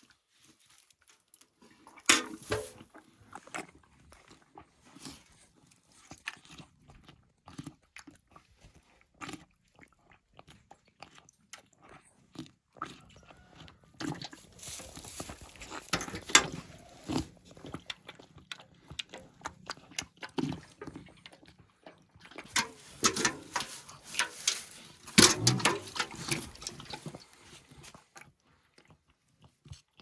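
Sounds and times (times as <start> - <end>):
animal chewing and crunching feed: 0.0 - 30.0.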